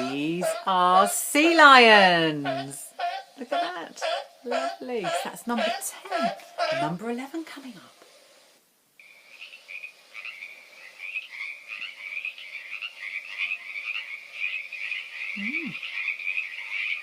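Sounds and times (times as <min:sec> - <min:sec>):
frogs croaking: 0:00.0 - 0:07.2, 0:09.0 - 0:17.0.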